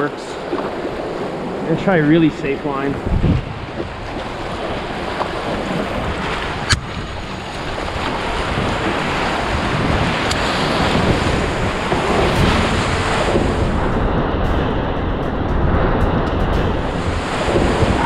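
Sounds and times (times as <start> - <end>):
whitewater river roaring: 0.0 - 15.1, 16.6 - 18.0
wind buffeting microphone: 0.0 - 18.0.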